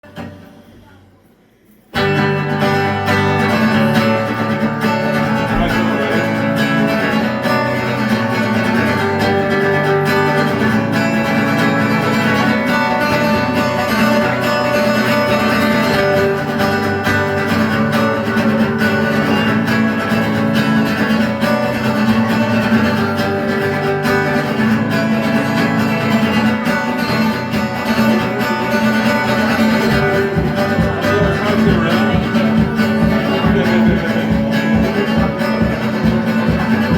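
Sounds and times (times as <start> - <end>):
strummed acoustic guitar: 0.0 - 36.9.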